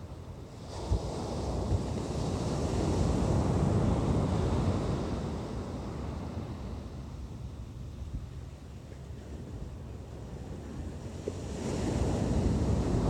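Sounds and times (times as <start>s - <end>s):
wind rumble on microphone: 0.0s - 13.0s
ocean surf on beach: 0.3s - 7.6s, 9.1s - 13.0s.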